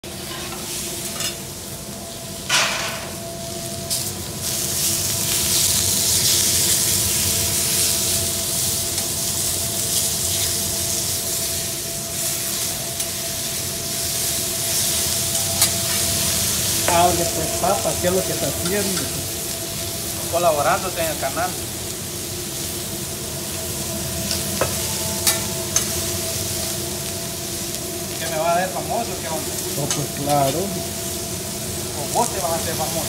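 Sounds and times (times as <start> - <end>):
food sizzling on griddle: 0.0 - 33.0.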